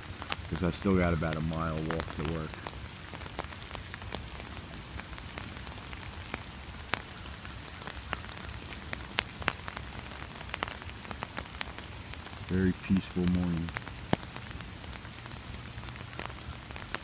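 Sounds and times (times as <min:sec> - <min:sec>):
raindrops tapping on umbrella: 0:00.0 - 0:17.0
steady rain: 0:00.0 - 0:17.0.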